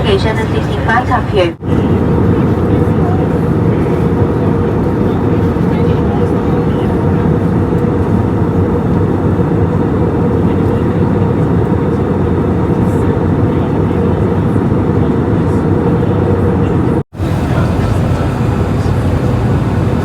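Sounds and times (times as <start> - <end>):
airplane cabin engine noise: 0.0 - 20.0.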